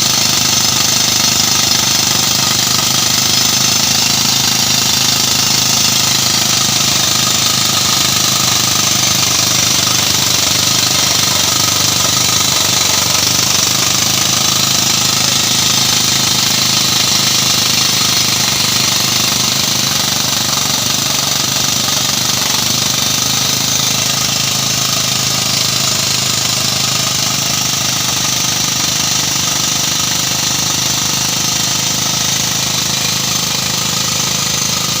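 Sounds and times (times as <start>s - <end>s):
drill machine running: 0.0s - 35.0s.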